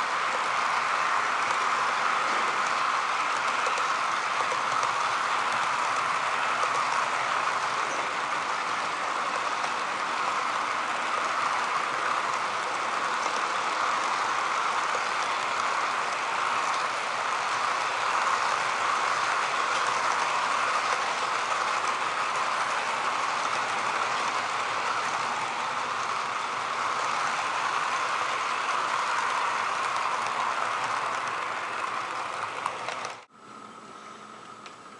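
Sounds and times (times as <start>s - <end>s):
model train cars rolling on rails: 0.0s - 34.9s.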